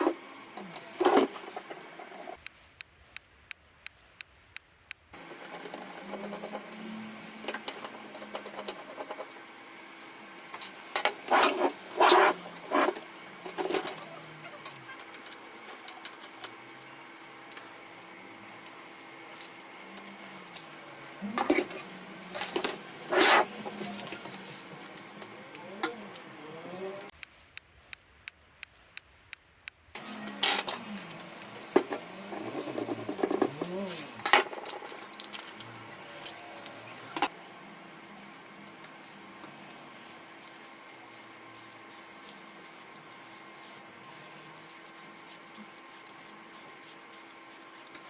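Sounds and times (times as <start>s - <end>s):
loud printer mechanical noise: 0.0s - 2.4s, 5.2s - 27.1s, 30.0s - 48.0s
printer mechanism whirring: 0.0s - 2.5s, 5.2s - 27.2s, 30.0s - 48.0s.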